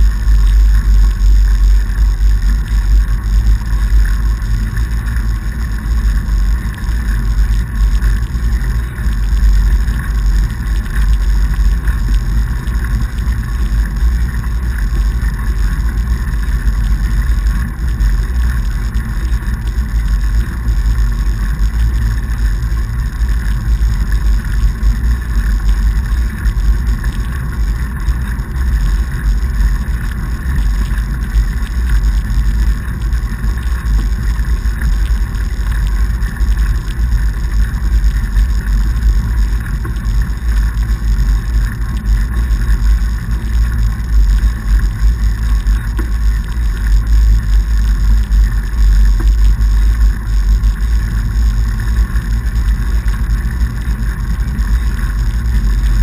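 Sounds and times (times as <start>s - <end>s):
wide tyres rolling on snow: 0.0s - 56.0s.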